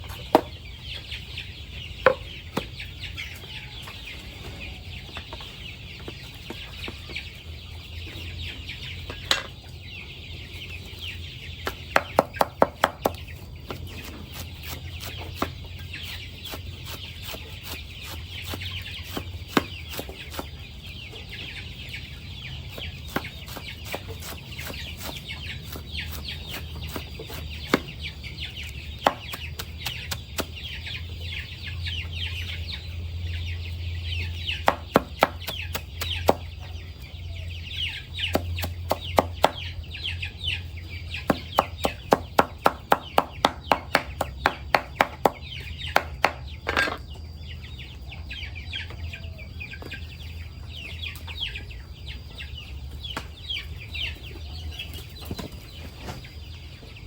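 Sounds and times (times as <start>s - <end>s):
chickens chirping: 0.0s - 57.0s.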